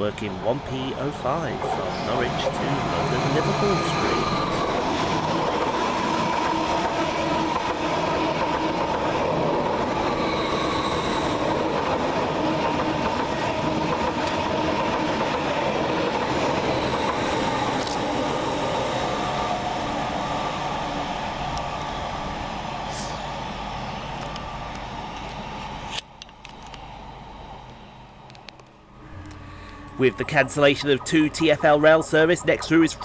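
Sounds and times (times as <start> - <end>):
electric train running past: 0.0 - 33.0.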